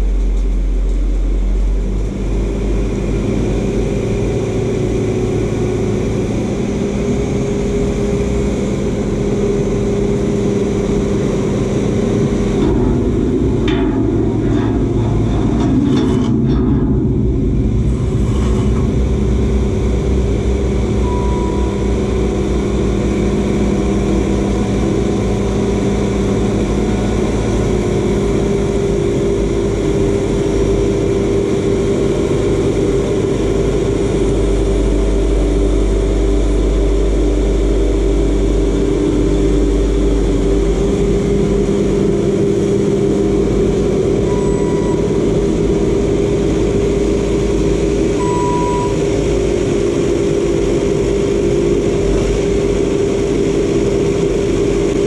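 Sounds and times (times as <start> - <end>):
loader diesel engine running: 0.0 - 55.0.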